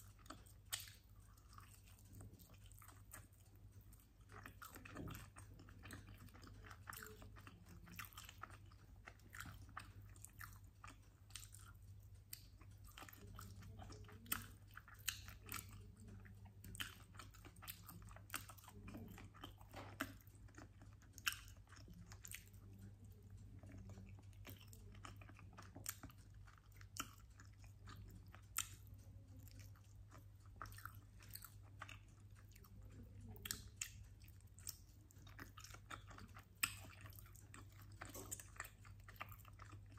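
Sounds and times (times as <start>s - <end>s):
chewing and biting chicken wings: 0.0s - 39.9s.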